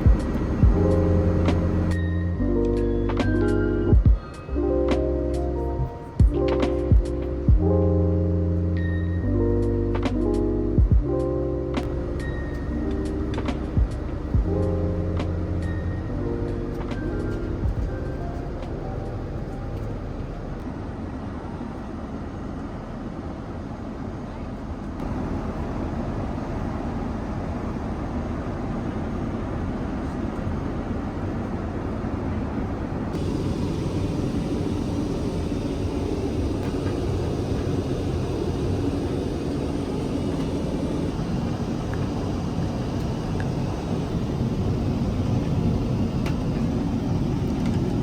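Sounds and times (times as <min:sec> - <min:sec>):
airliner cabin engine rumble: 0:00.0 - 0:48.0.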